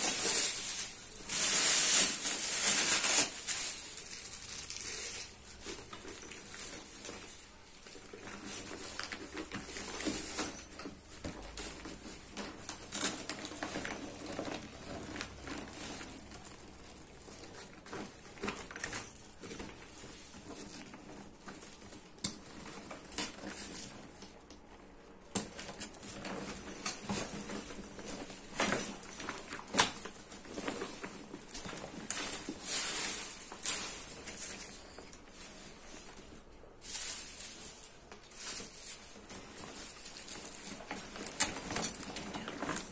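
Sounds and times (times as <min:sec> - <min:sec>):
insulated backpack rustling and crinkling: 0:00.0 - 0:42.9.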